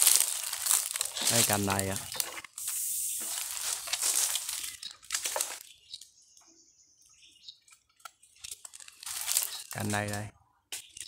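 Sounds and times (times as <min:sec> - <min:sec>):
leaves and twigs rustling: 0:00.0 - 0:06.1, 0:07.6 - 0:11.0.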